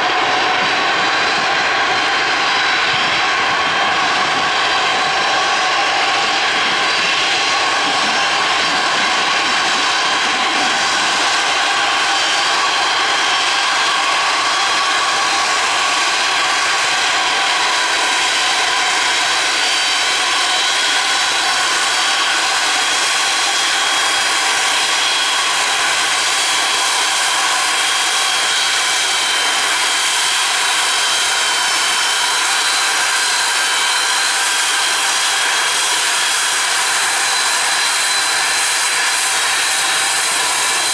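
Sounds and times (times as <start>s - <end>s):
jet engines taxiing: 0.0s - 40.9s.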